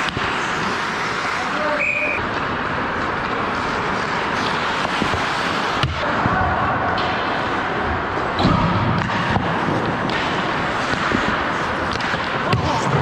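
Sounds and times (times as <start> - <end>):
skates on ice: 0.0 - 13.0
sticks and puck clattering: 0.0 - 13.0.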